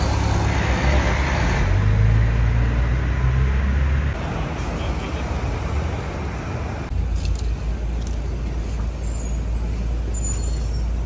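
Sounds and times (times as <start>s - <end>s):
passing cars and engines: 0.0s - 11.0s.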